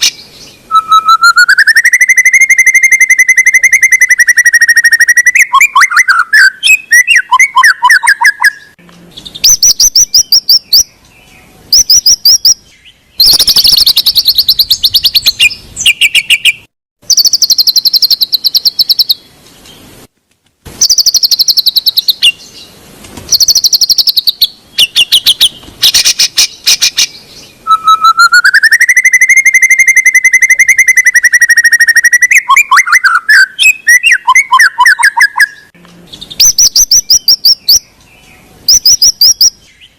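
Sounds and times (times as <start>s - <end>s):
bird song whistles and trills: 0.0s - 19.8s, 20.8s - 39.9s.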